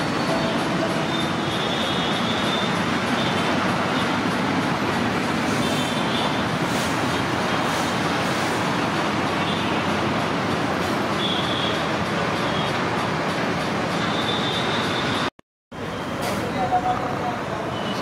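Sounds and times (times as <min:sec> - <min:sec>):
steady road traffic: 0:00.0 - 0:18.0.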